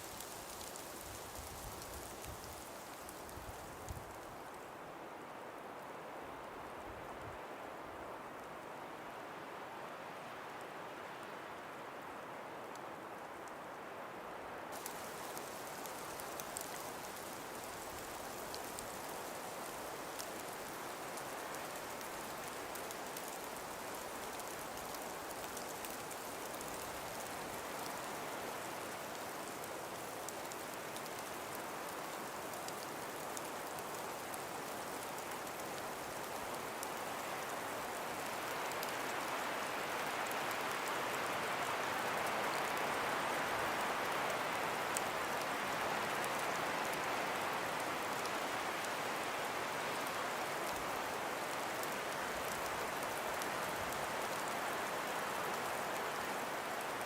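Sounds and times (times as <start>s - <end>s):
faint small ticks: 0.0s - 4.7s, 12.6s - 13.7s, 14.7s - 57.0s
breeze through trees: 0.0s - 57.0s.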